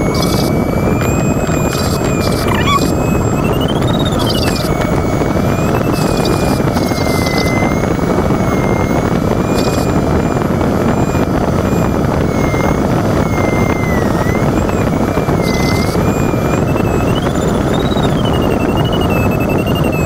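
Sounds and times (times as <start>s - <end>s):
rush of air around cockpit: 0.0s - 20.0s
wavering variometer tone: 0.0s - 20.0s.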